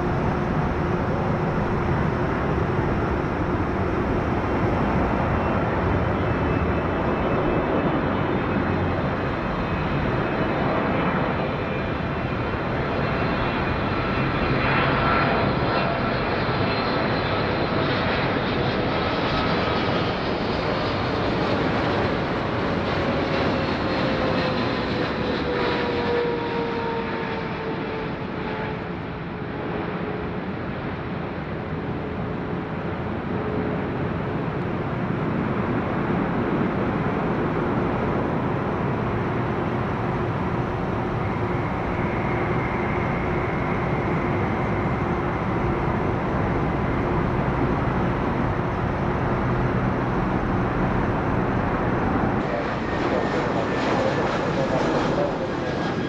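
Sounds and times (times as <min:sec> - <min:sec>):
jet engine rumble with whine: 0:00.0 - 0:56.0.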